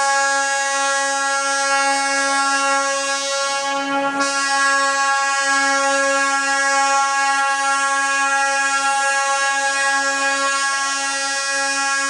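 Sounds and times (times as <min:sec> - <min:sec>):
train horn blast: 0:00.0 - 0:12.0.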